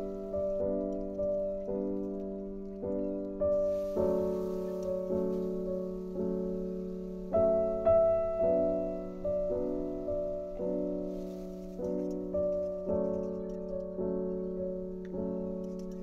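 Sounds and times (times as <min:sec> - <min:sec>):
slow soft piano chords: 0:00.0 - 0:16.0.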